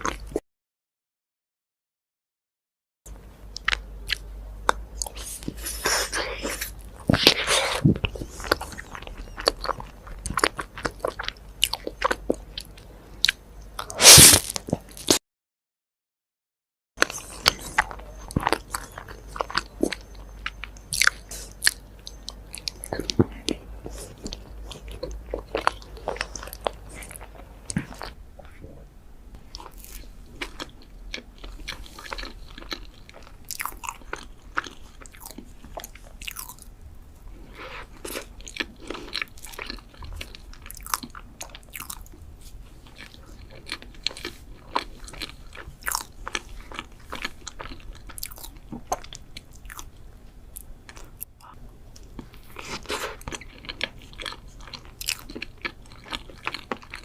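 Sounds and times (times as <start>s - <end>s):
person chewing crunchy food: 0.0s - 0.4s, 3.4s - 15.2s, 17.0s - 57.0s.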